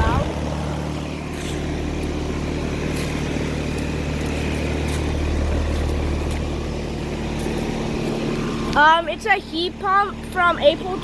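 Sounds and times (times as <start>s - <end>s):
air conditioner humming: 0.0s - 11.0s
fan rushing: 0.0s - 11.0s.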